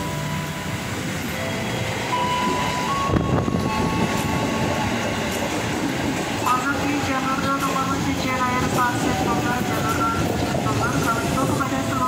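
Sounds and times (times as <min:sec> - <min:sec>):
high train whine: 0:00.0 - 0:12.0
train wheels rumbling on rails: 0:00.0 - 0:12.0.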